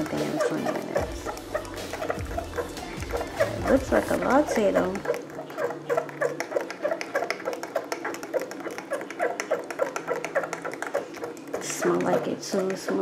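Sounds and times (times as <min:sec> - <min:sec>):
spoon stirring in ceramic mug: 0:00.0 - 0:13.0.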